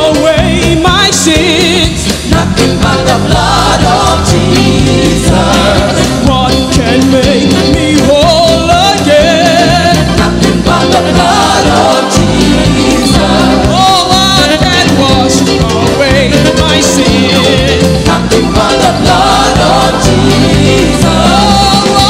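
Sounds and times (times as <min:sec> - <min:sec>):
band with steady beat: 0:00.0 - 0:22.0
gospel singing: 0:00.0 - 0:22.0.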